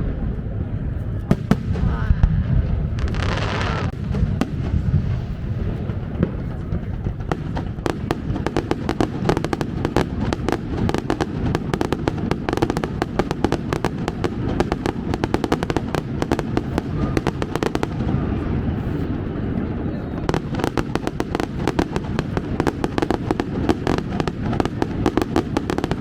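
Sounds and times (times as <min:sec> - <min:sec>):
fireworks crackling pops: 0:01.0 - 0:26.0
low rumble of bursting shells: 0:01.2 - 0:26.0.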